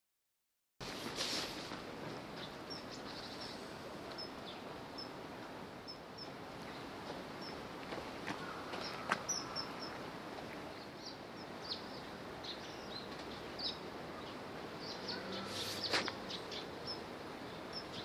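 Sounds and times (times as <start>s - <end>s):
steady background hiss: 0.8s - 18.0s
birds chirping: 2.0s - 18.0s.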